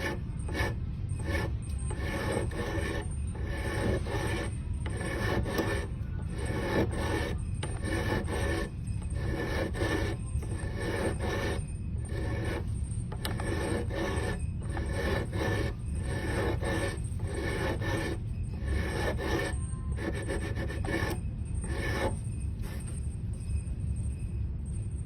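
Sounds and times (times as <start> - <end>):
file rasping on wood: 0.0 - 22.2.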